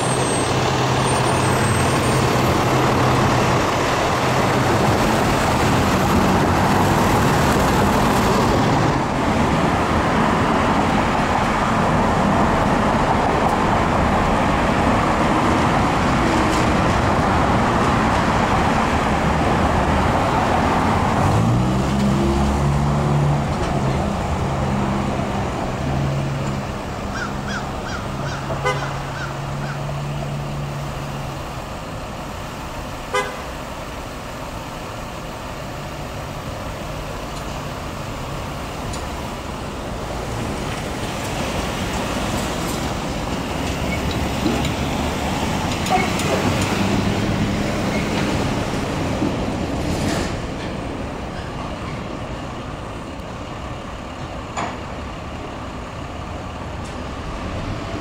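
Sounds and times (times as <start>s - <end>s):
road traffic rushing past: 0.0s - 58.0s.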